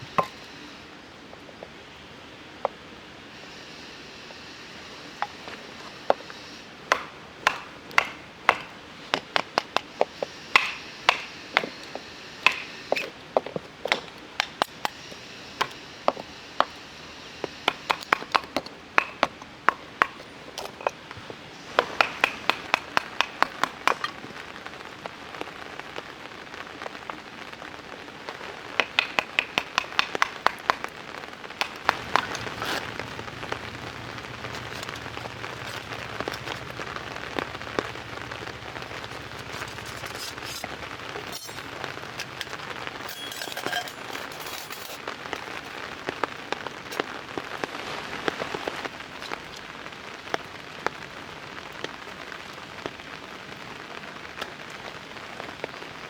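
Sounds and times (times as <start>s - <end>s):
steady hiss of rain: 0.0s - 56.0s
raindrops tapping on a tarp: 6.9s - 16.8s, 17.4s - 43.2s, 44.0s - 56.0s.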